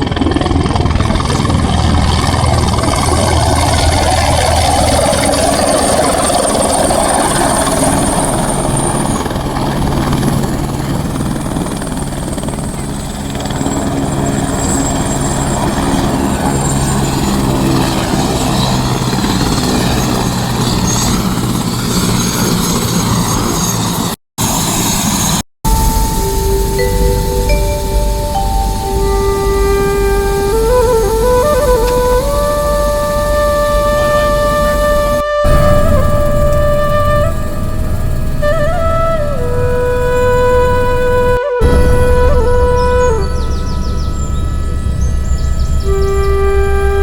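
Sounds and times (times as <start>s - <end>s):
helicopter rotor and engine: 0.0s - 47.0s
high turbine whine: 0.0s - 47.0s.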